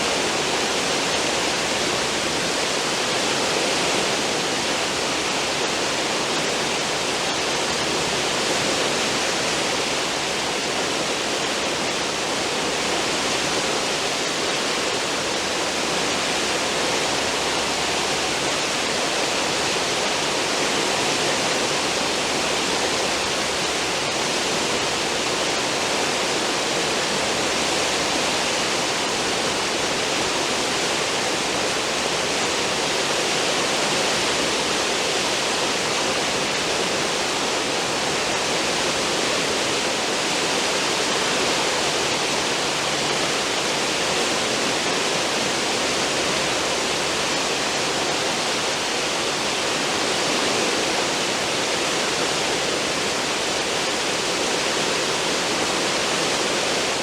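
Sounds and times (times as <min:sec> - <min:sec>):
churning water rushing: 0:00.0 - 0:57.0.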